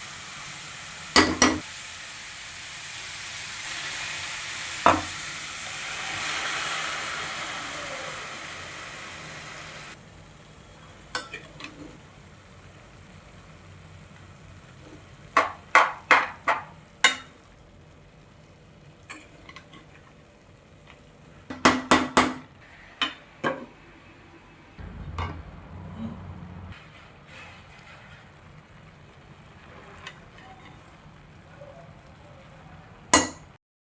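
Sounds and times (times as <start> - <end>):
food sizzling in a pan: 0.0 - 24.1, 26.7 - 33.6.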